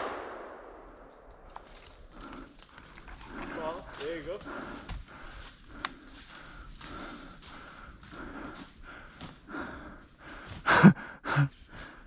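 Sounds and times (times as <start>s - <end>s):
person breathing hard: 2.0s - 12.0s.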